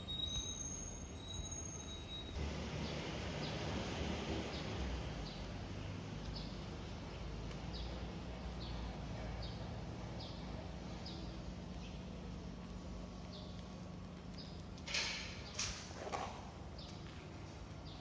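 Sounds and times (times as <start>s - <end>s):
small bird chirping: 0.0s - 15.8s
low background hum: 0.0s - 18.0s.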